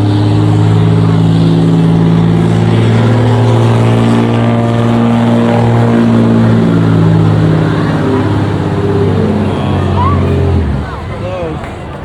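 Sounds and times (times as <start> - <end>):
pickup truck engine under load: 0.0 - 12.0.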